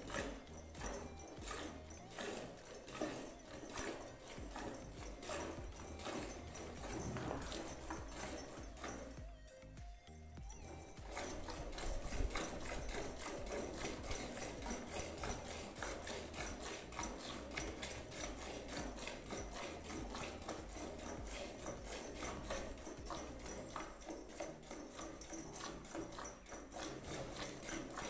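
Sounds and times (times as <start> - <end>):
milk squirting into metal bucket: 0.0 - 9.2, 10.6 - 28.0.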